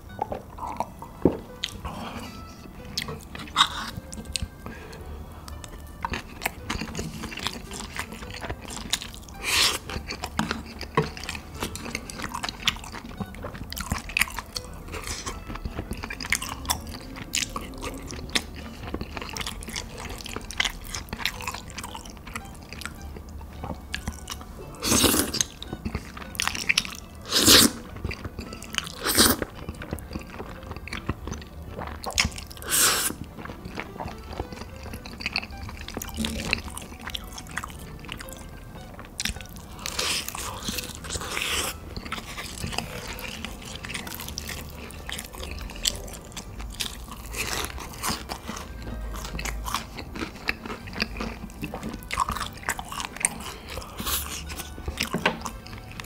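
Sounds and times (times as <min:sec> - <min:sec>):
chewing with wet mouth noises: 0:00.0 - 0:56.0.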